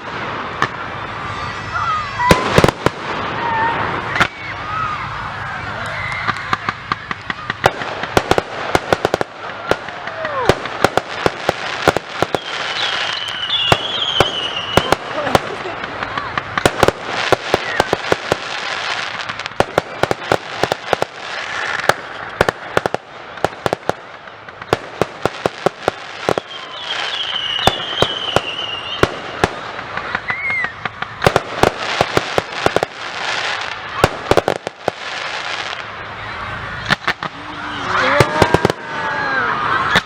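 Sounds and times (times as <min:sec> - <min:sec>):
firework whistling: 0:00.0 - 0:40.0
fireworks bangs and crackling: 0:00.0 - 0:40.0.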